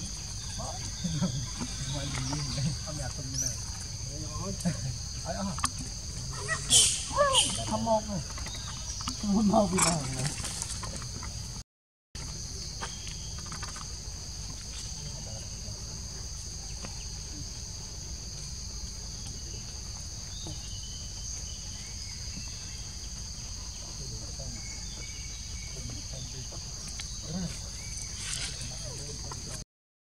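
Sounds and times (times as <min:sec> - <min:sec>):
high-pitched insect chorus: 0:00.0 - 0:11.6, 0:12.2 - 0:29.6.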